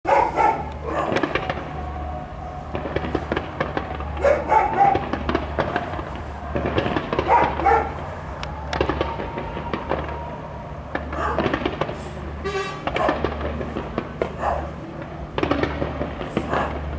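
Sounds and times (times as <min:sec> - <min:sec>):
distant fireworks popping and crackling: 0:00.1 - 0:16.9.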